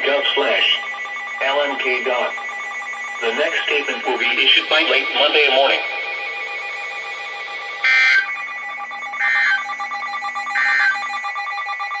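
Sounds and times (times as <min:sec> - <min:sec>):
digital data tone bursts: 0:00.0 - 0:11.0.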